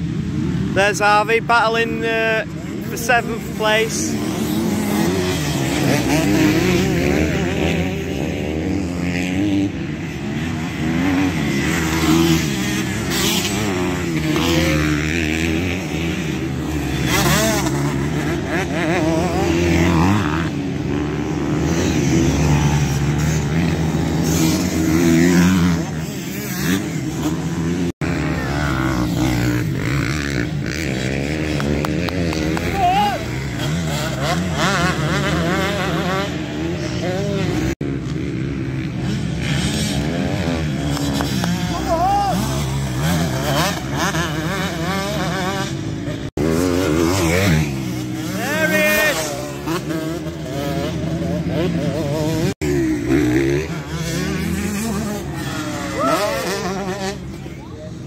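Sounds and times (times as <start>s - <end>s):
motocross bikes revving: 0.0s - 58.0s.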